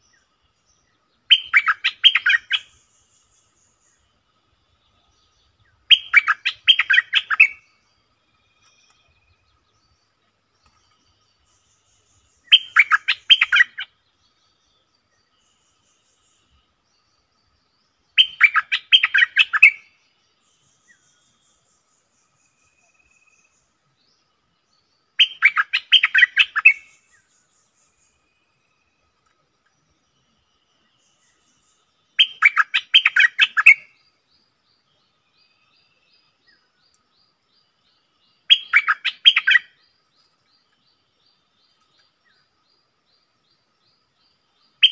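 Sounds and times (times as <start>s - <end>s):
bird chattering song: 0.0s - 4.1s, 4.7s - 44.9s.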